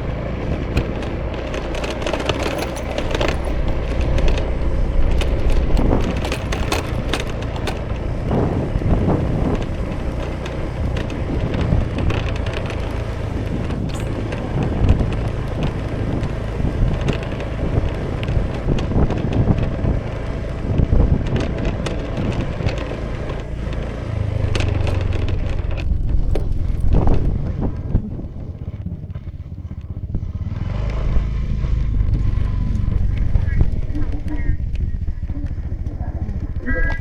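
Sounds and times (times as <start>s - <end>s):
clicks and rattles: 0.0s - 30.0s
road and wind noise: 0.0s - 37.0s
scooter engine running: 0.0s - 37.0s.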